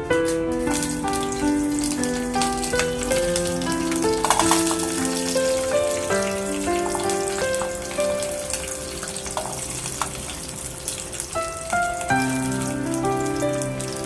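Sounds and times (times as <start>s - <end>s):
background music with held notes: 0.0s - 14.0s
food sizzling in a frying pan: 0.2s - 14.0s.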